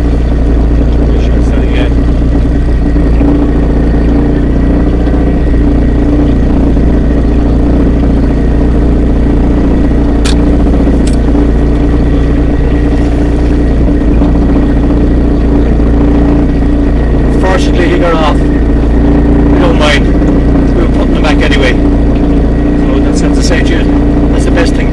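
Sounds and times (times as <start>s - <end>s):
outboard motor running: 0.0s - 24.9s.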